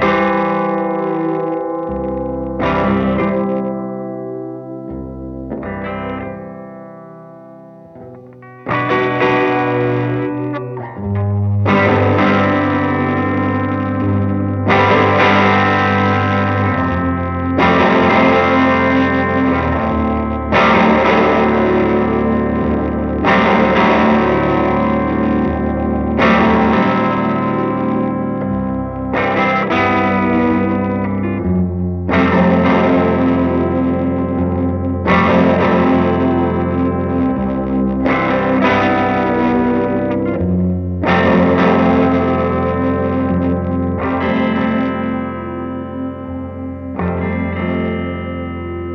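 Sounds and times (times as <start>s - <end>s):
distorted electric guitar chords: 0.0s - 48.9s.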